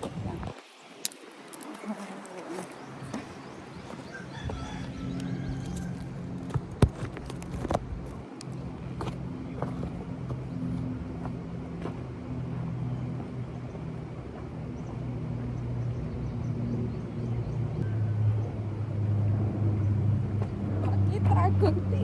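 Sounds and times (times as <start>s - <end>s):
engine low hum: 1.6s - 22.0s.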